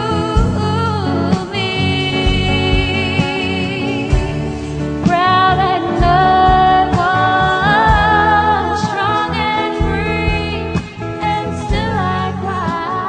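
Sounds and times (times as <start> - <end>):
guitar accompaniment: 0.0 - 13.0
woman singing: 0.0 - 13.0.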